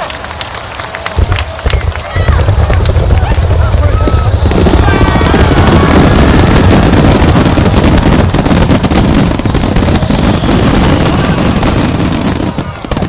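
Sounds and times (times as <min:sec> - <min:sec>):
fireworks bursts and crackles: 0:00.0 - 0:13.0.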